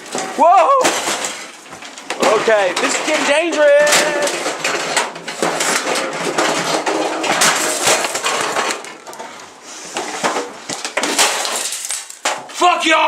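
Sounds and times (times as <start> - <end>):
dishes and pans crashing: 0.0 - 9.1, 10.2 - 12.5.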